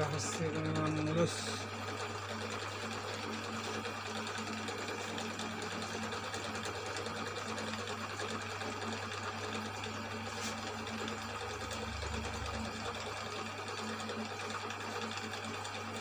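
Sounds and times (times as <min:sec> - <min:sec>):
boring machine motor hum: 0:00.0 - 0:16.0.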